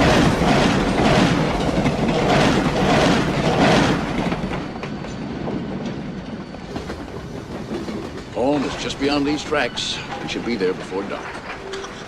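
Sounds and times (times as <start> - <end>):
train passing on tracks: 0.0 - 12.0.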